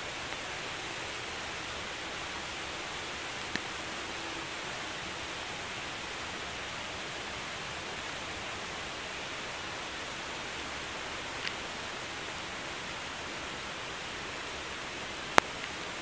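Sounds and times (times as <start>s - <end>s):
rain falling on grass and leaves: 0.0s - 16.0s.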